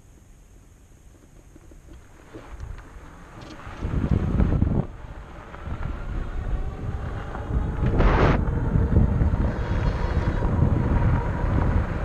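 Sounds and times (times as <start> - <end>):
wind buffeting microphone: 2.1 - 12.0.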